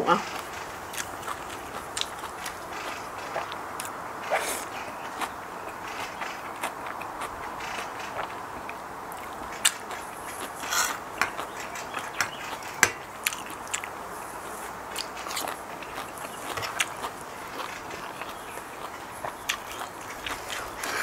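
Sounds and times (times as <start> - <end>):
person chewing: 0.2 - 21.0.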